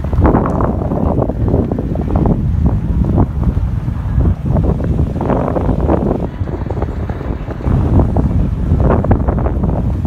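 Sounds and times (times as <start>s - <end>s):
vehicle rumbling on rough road: 0.0s - 10.0s
wind buffeting microphone: 0.0s - 10.0s.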